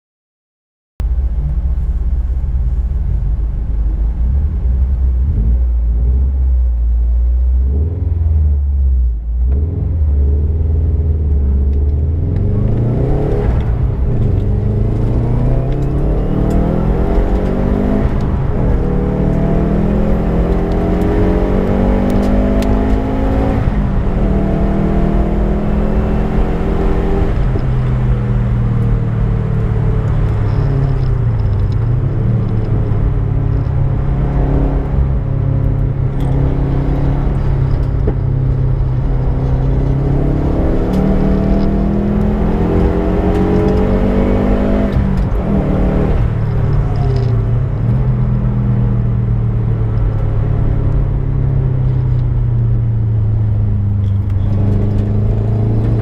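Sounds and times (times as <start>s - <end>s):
car engine accelerating: 1.0s - 56.0s
gear changes: 1.0s - 56.0s.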